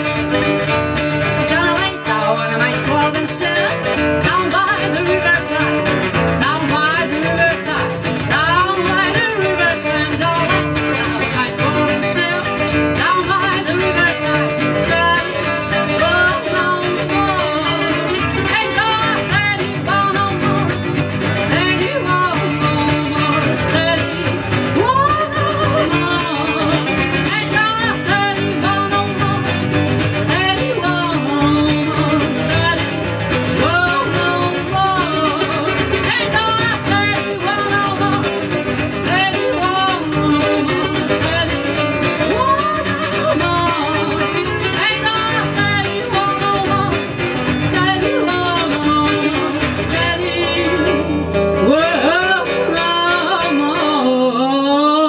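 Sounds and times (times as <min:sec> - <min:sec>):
acoustic guitars: 0:00.0 - 0:55.0
woman singing: 0:00.0 - 0:55.0.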